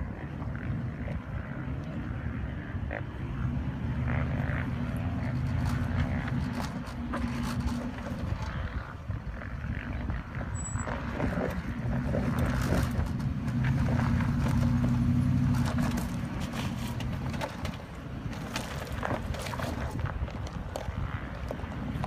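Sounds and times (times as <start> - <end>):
engine running at low revs: 0.0 - 22.0
stones crunching under tyres: 3.9 - 22.0.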